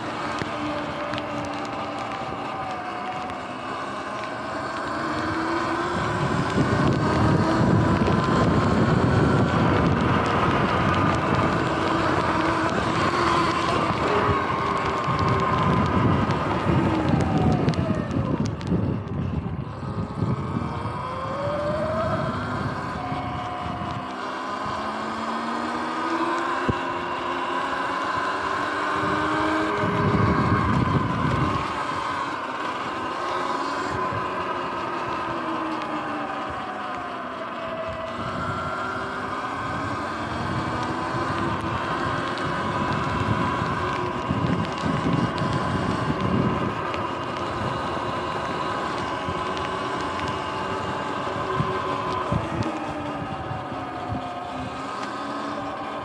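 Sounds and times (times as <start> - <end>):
electric motor whining: 0.0 - 56.0
wind buffeting microphone: 0.0 - 56.0.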